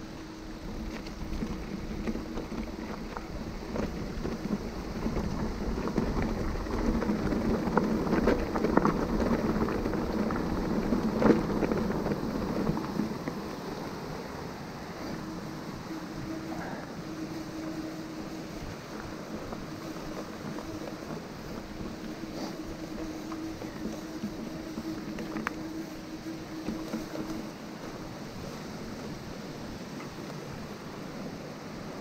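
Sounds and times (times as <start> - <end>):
bike rattling: 0.0 - 32.0
bike tyres crackling over gravel: 0.0 - 32.0.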